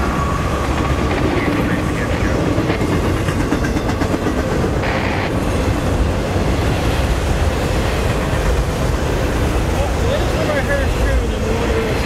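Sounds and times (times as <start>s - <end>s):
freight train wheels clattering: 0.0s - 12.0s.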